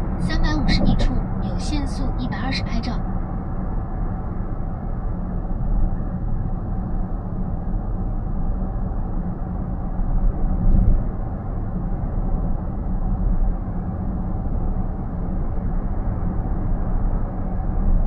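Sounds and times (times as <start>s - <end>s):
road and tyre rumble in car: 0.0s - 18.0s.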